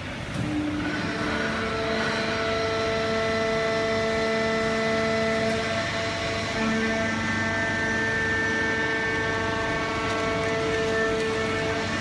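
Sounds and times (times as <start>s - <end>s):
steady mechanical whine: 0.0s - 12.0s
baler motor humming: 0.2s - 12.0s.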